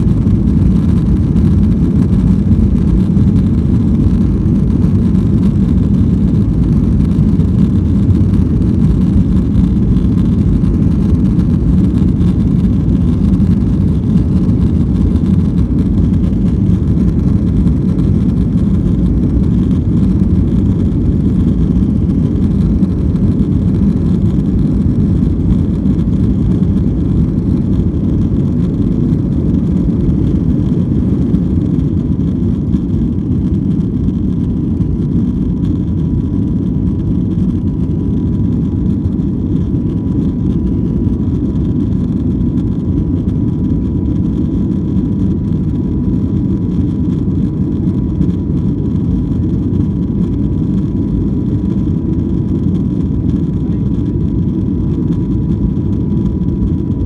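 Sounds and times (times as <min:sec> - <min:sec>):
faint steady whine: 0:00.0 - 0:57.0
low rumble of jet engines: 0:00.0 - 0:57.0.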